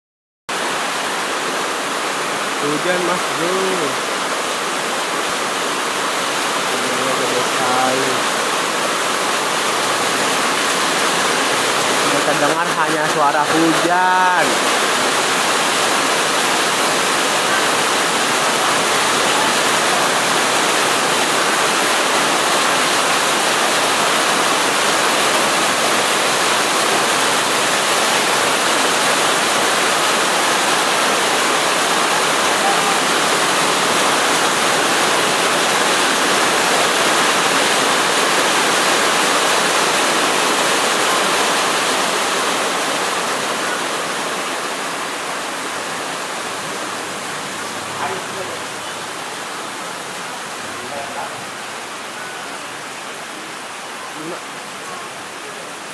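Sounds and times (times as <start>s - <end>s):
heavy rain pouring: 0.5s - 55.9s.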